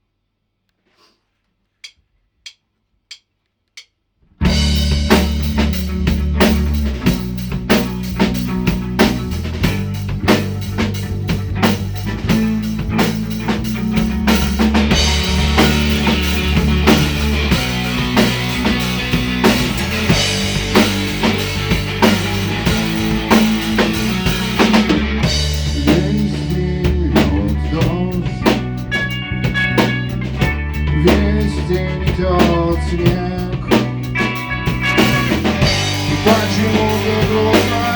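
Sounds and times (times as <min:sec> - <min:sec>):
bass guitar: 0:04.4 - 0:37.9
drum kit: 0:04.4 - 0:37.9
guitar: 0:04.4 - 0:37.9.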